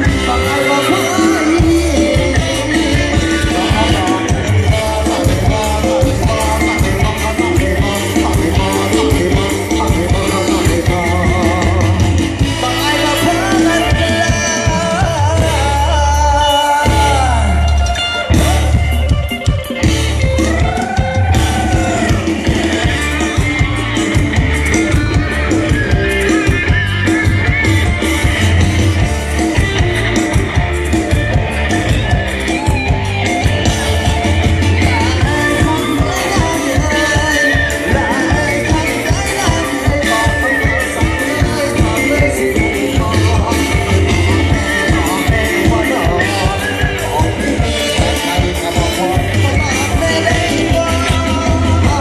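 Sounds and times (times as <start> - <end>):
band with bass drums and guitar: 0.0 - 52.0
person singing: 0.0 - 52.0.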